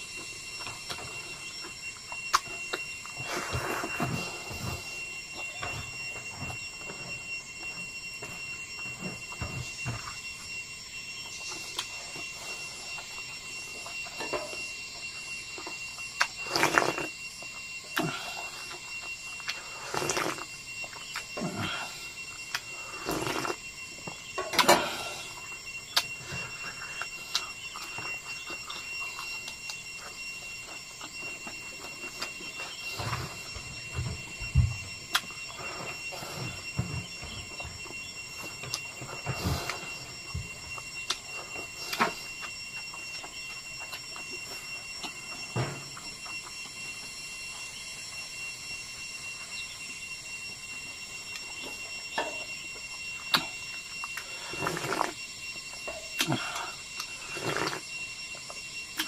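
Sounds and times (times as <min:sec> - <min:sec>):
man chewing: 0:00.0 - 0:10.4, 0:11.2 - 0:46.8, 0:52.7 - 0:59.0
high-pitched tone hum: 0:00.0 - 0:59.0.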